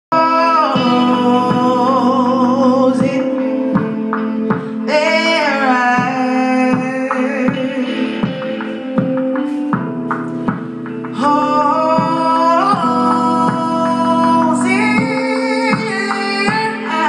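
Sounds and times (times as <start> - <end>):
electronic beat: 0.1 - 17.0
wavering vocal melody: 0.2 - 9.7, 11.1 - 17.0.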